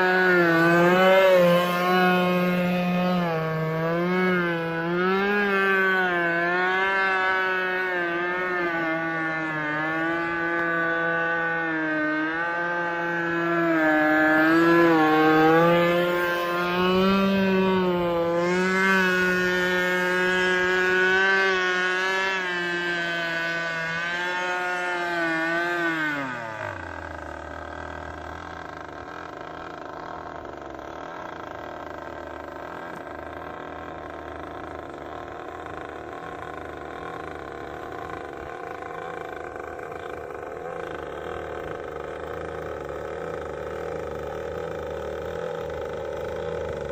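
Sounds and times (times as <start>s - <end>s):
two-stroke model boat engine running: 0.0s - 46.9s.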